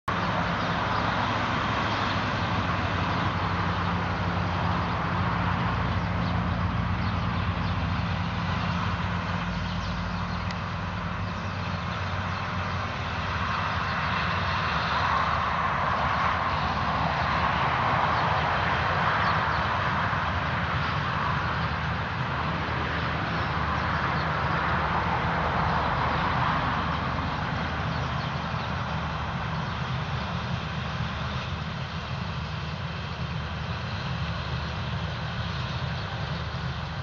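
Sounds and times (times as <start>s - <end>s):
combine harvester engine drone: 0.1s - 37.0s.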